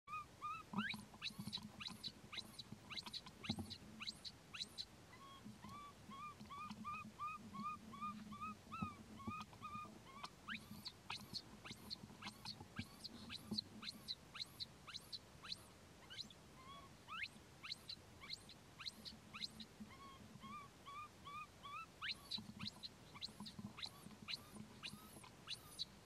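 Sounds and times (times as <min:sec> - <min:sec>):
faint low hum: 0:00.1 - 0:26.0
high thin animal calls: 0:00.1 - 0:26.0.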